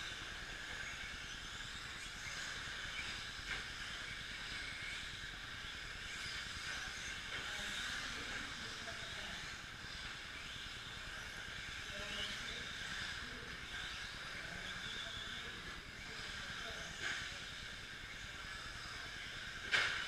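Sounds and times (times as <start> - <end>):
rc trucks motors hissing: 0.0 - 20.0.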